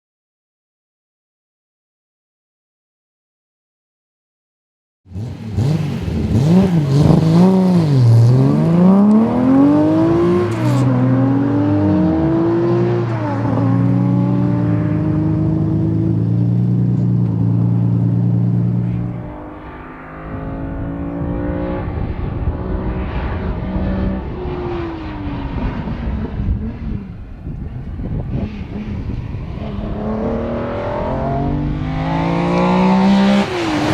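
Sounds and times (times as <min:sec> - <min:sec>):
car engine accelerating hard: 0:05.1 - 0:33.9.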